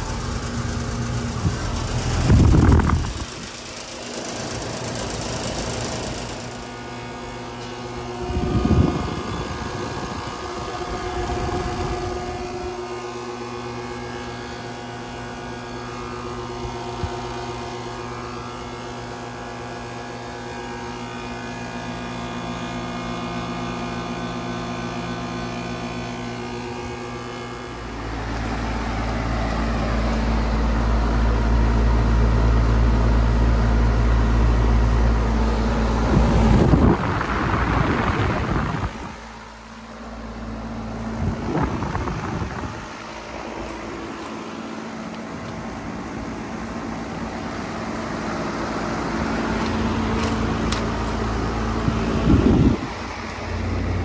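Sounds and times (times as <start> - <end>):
air conditioner compressor hum: 0.0 - 54.0
condenser fan whirring: 0.0 - 54.0.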